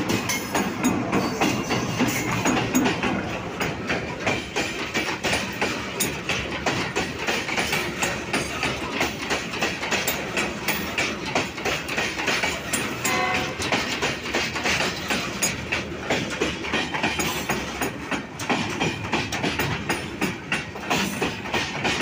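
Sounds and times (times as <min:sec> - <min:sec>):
train wheels clattering over rail joints: 0:00.0 - 0:22.0.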